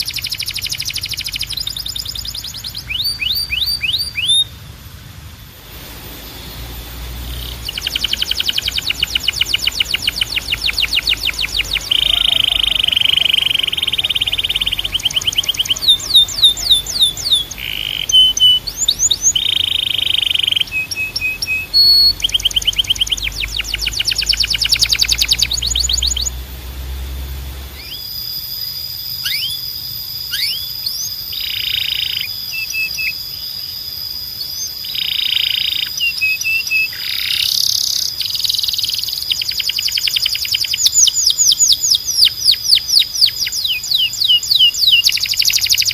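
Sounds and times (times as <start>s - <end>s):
canary singing trills: 0.0s - 4.6s, 5.6s - 26.5s, 27.1s - 45.9s.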